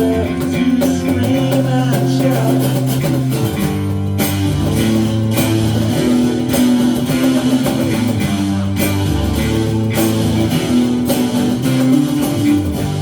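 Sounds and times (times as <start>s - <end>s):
live band playing instrumental: 0.0s - 13.0s.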